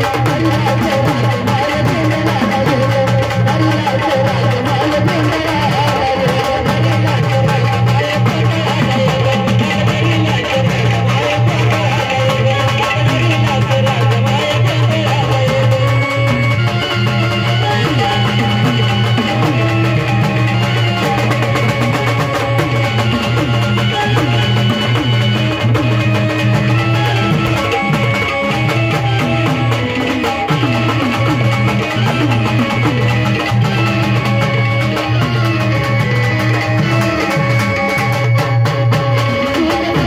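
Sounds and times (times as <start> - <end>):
music with instruments and drums: 0.0 - 40.0.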